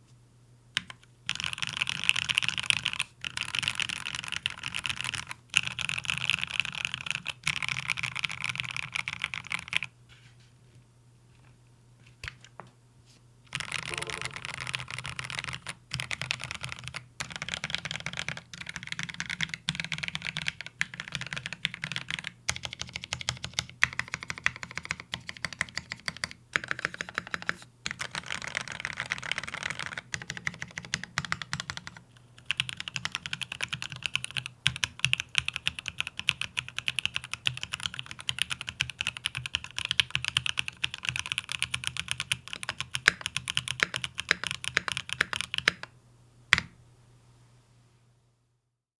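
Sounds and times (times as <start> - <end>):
fast mechanical keyboard typing: 0.8 - 9.9, 13.5 - 45.9.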